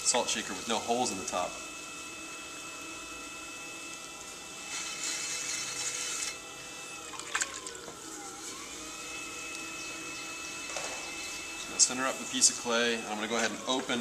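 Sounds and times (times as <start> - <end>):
pottery wheel motor whining: 0.0 - 14.0.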